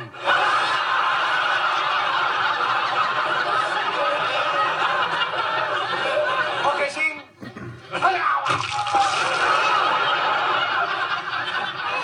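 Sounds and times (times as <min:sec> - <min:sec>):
audience laughing: 0:00.0 - 0:08.1, 0:08.9 - 0:12.0.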